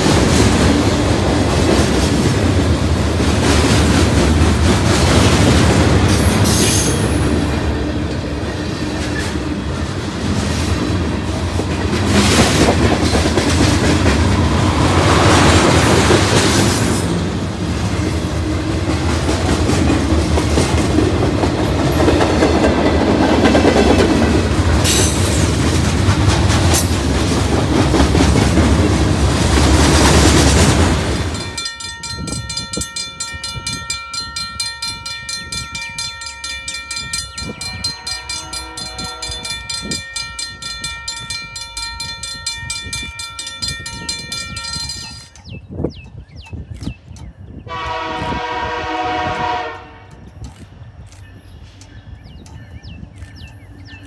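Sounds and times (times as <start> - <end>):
freight train rumbling and clacking: 0.0 - 54.0.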